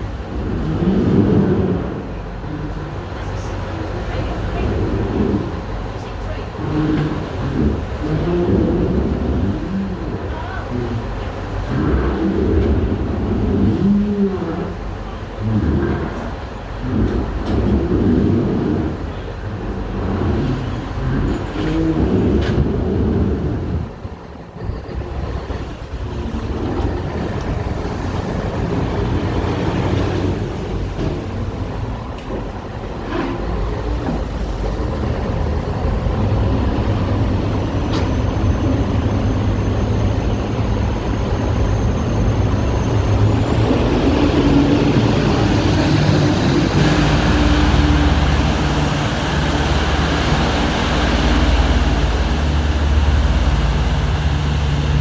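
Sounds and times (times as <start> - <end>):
boat engines rumbling: 0.0 - 55.0.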